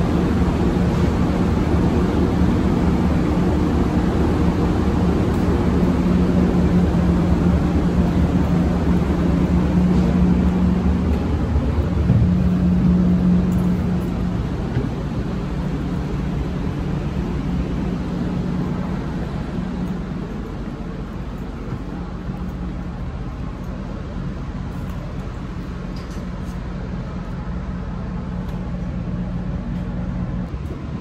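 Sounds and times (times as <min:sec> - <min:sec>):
train machinery humming: 0:00.0 - 0:31.0.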